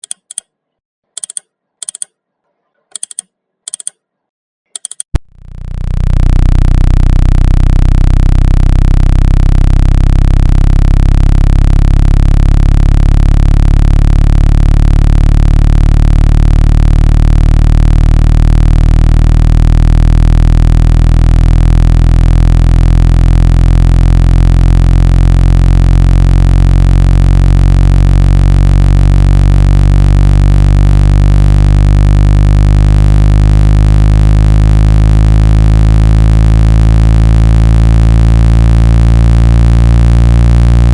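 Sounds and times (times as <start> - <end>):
low synthesized buzz: 5.2 - 40.9.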